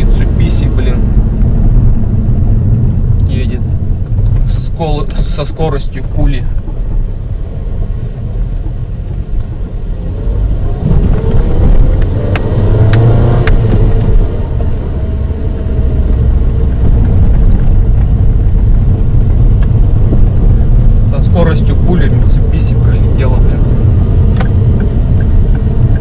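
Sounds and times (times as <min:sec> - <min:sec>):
car interior road noise: 0:00.0 - 0:26.0.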